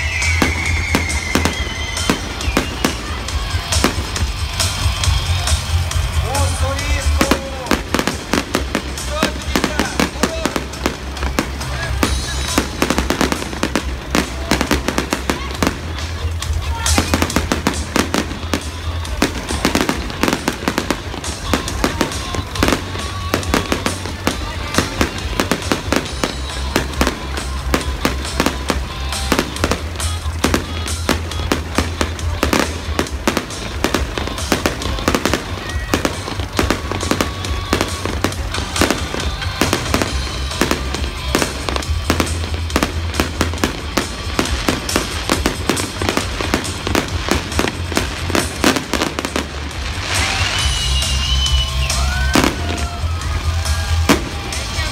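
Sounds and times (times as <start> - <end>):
fireworks bangs and crackling: 0.0 - 54.9
music with low bass: 0.2 - 54.9.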